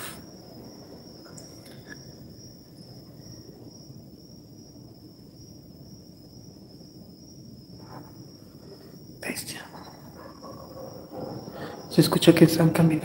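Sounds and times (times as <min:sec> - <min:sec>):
cricket trilling: 0:00.0 - 0:13.0
low background hiss: 0:00.0 - 0:13.0.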